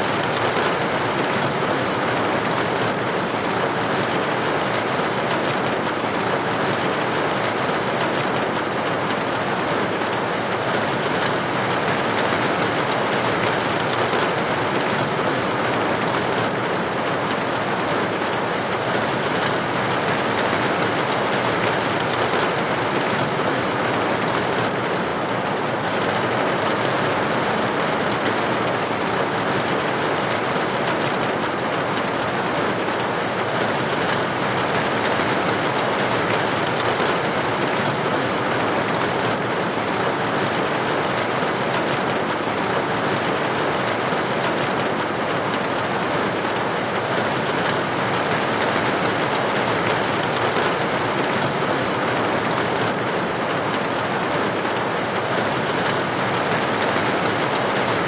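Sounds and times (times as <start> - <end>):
rain pattering on window: 0.0 - 58.0.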